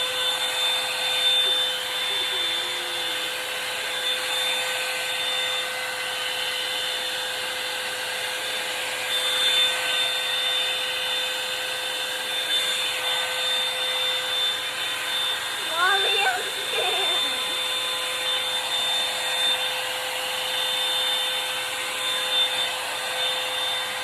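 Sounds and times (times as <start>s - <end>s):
hot-air brush dryer whine: 0.0s - 24.0s.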